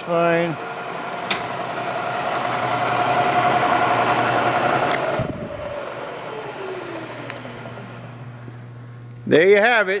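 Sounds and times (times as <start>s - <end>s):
milling machine motor whining: 0.0s - 9.5s.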